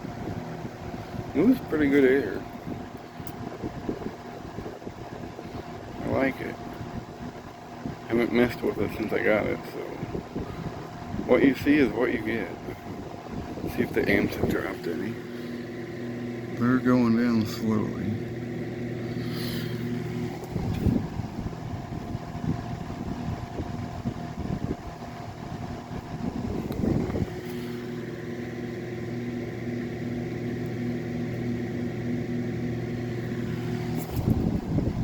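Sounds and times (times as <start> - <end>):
box fan motor humming: 0.0 - 35.0
rush of fan air: 0.0 - 35.0.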